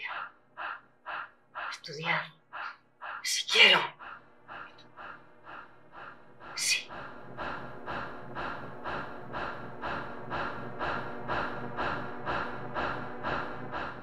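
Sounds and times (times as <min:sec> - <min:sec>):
woman panting: 0:00.0 - 0:14.0.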